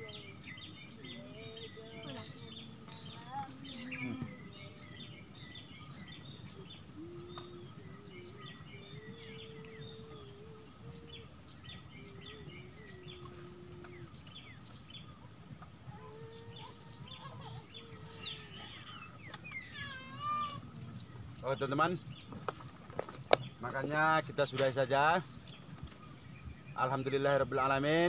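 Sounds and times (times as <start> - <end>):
bird chirps: 0.0 - 28.0
high-pitched insect drone: 0.0 - 28.0.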